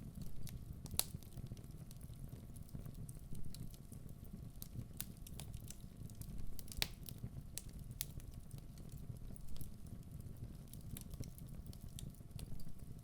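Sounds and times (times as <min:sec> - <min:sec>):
logs crackling and popping: 0:00.1 - 0:12.9.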